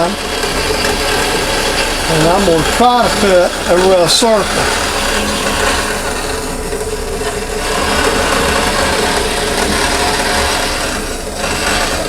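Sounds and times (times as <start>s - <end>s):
bandsaw cutting plastic: 0.0s - 12.0s
constant hum: 0.0s - 12.0s.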